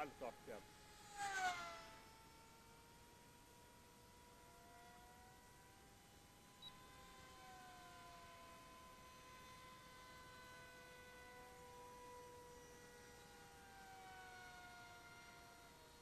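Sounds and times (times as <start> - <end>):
distant model plane motor whine: 0.0 - 16.0.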